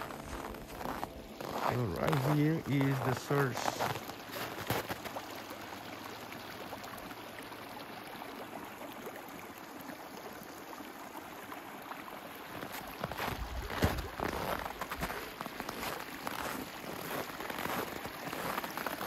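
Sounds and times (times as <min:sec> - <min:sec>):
water trickling over rocks: 0:00.0 - 0:19.0.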